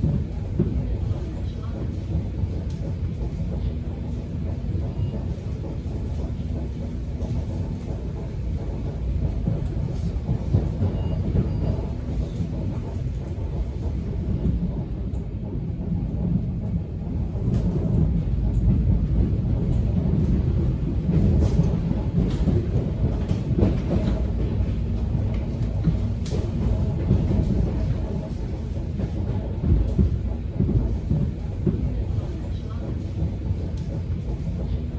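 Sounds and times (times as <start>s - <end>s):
subway train rumbling: 0.0s - 34.9s
train clicks and rattles: 0.0s - 34.9s.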